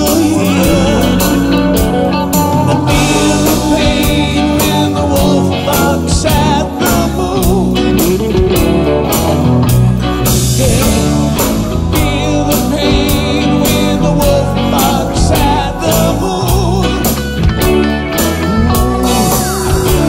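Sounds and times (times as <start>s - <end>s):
bass guitar: 0.0s - 20.0s
electric guitar: 0.0s - 20.0s
steady drum beat: 0.0s - 20.0s.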